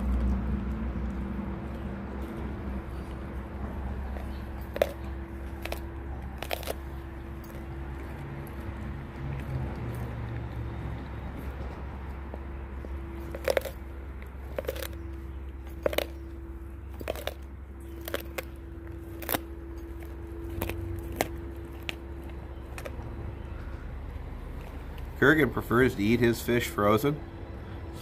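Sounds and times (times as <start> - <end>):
dog crunching frozen fish: 0.0 - 23.8
low hum: 0.0 - 26.1.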